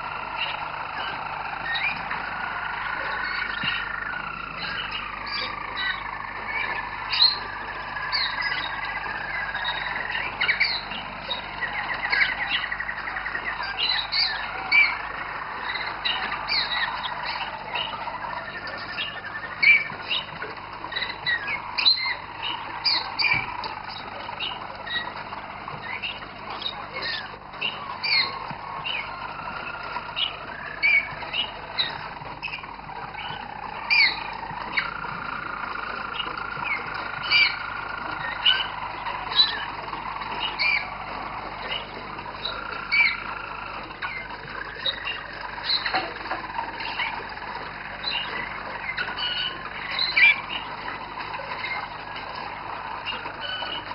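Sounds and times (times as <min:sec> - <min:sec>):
canaries trilling: 0:00.0 - 0:53.9.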